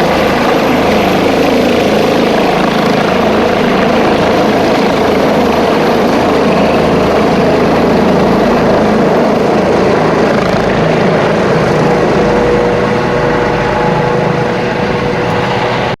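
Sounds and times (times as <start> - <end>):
helicopter turbine and rotor: 0.0 - 16.0.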